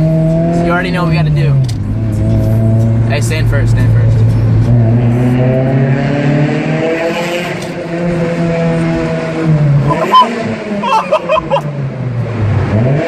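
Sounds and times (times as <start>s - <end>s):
car engine accelerating in tunnel: 0.0s - 13.0s.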